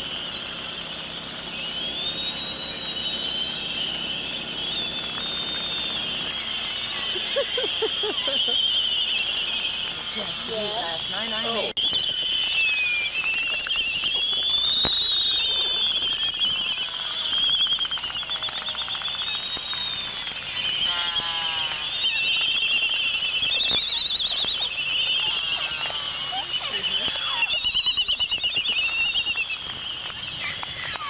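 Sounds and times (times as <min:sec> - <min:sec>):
albatross whistling chorus: 0:00.0 - 0:31.0
low drawn-out bird call: 0:00.0 - 0:31.0.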